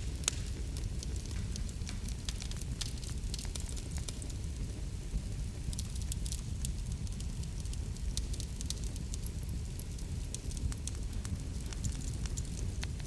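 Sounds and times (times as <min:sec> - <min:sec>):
low rumble of flame: 0:00.0 - 0:13.0
wood fire crackling and popping: 0:00.0 - 0:13.0.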